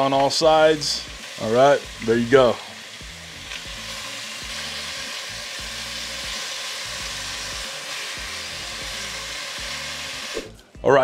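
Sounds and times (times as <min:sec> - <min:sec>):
meat sizzling in oil: 0:00.0 - 0:10.5
background music with low notes: 0:00.0 - 0:11.0.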